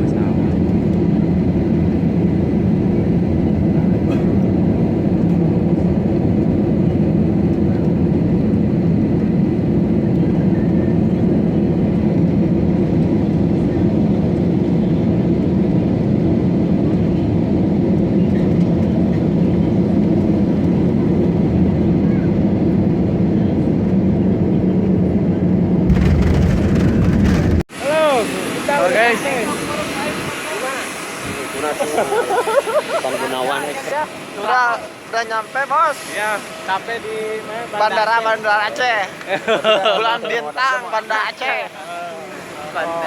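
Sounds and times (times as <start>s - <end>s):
airliner cabin jet engine rumble: 0.0s - 43.0s.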